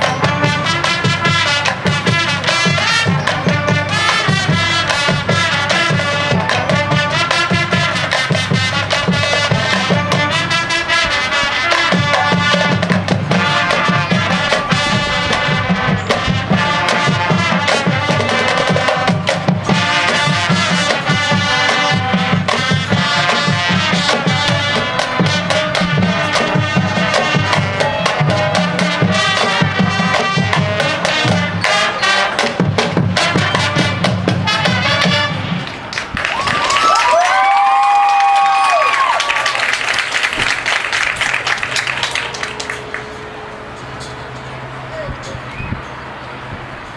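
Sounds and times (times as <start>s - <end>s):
wind instruments playing chords: 0.0s - 36.1s, 38.5s - 46.9s
drumline beating fast: 0.0s - 43.3s.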